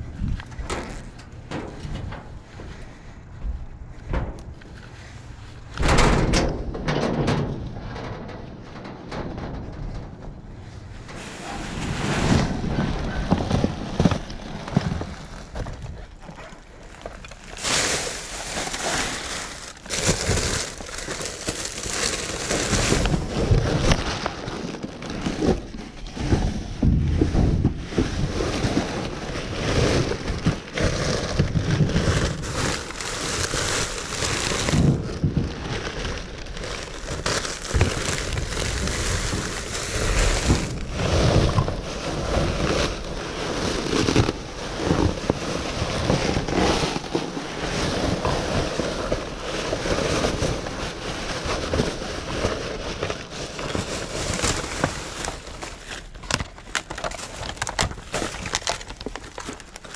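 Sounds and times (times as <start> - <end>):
plastic trash bags rustling: 6.6 - 59.9.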